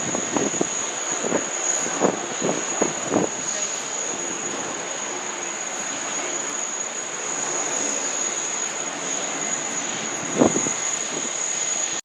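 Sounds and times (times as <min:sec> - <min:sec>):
jet engine rushing and whining: 0:00.0 - 0:12.0.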